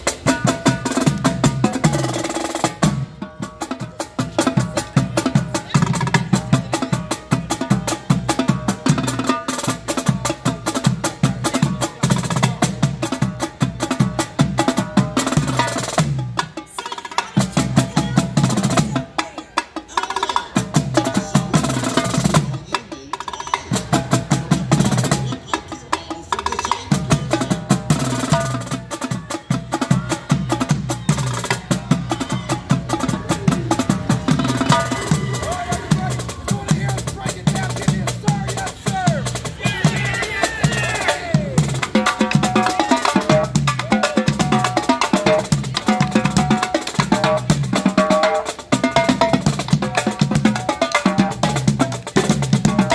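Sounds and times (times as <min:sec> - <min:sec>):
snare drums: 0:00.0 - 0:25.6, 0:26.4 - 0:52.9
tenor drums: 0:00.0 - 0:52.9.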